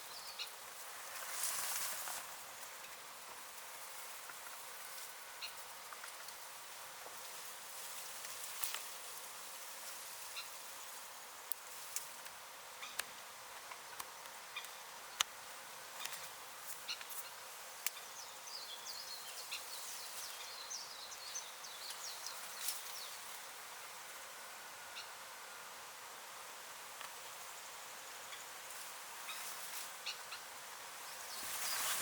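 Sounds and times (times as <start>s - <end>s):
steady high hiss: 0.0s - 32.0s.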